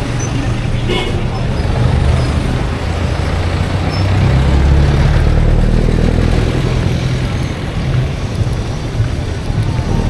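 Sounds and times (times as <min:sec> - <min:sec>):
street traffic: 0:00.0 - 0:10.0.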